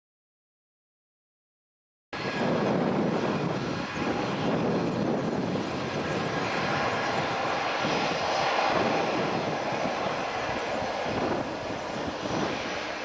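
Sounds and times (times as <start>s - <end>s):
jet engines running: 2.2s - 13.0s.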